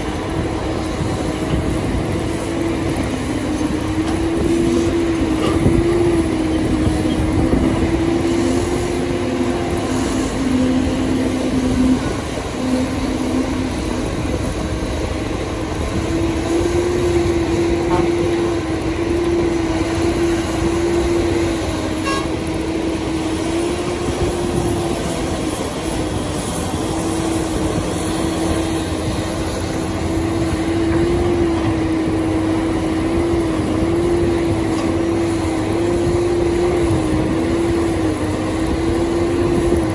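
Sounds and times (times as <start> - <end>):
excavator engine droning: 0.0 - 39.9.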